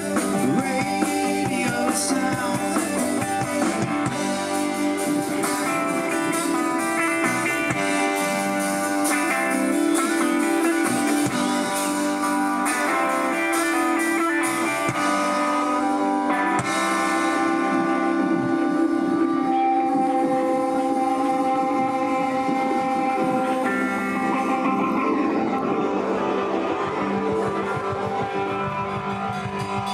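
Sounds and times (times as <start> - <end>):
electric guitar: 0.0 - 29.9
rock band playing: 0.0 - 29.9.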